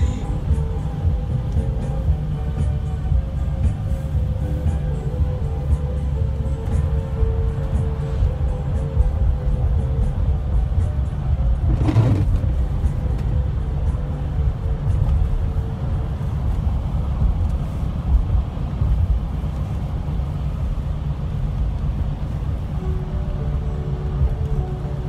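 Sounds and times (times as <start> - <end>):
car interior engine and road noise: 0.0 - 25.0.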